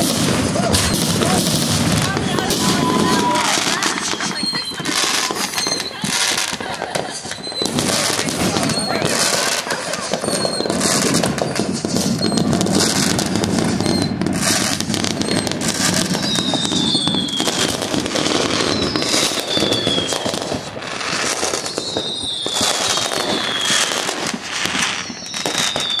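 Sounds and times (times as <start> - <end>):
firework whistles falling in pitch: 0.0 - 26.0
fireworks crackling and popping: 0.0 - 26.0.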